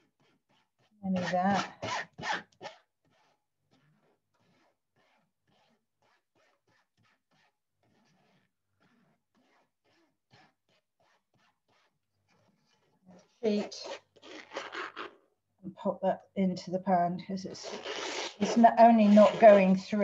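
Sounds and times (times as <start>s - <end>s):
sauce scraped through a sieve: 0.0s - 15.1s, 17.5s - 20.0s.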